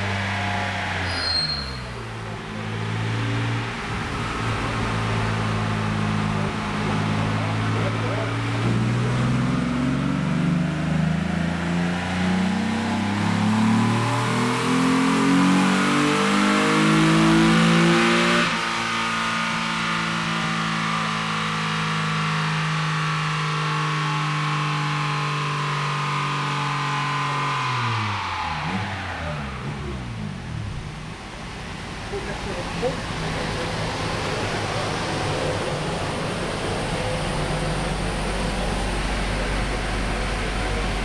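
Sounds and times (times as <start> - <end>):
engine revving under full throttle: 0.0 - 1.3, 2.0 - 31.3, 32.0 - 41.0.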